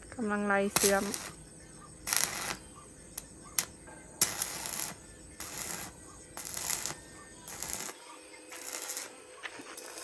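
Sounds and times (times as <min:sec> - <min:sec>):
arc welding crackling: 0:00.0 - 0:10.0.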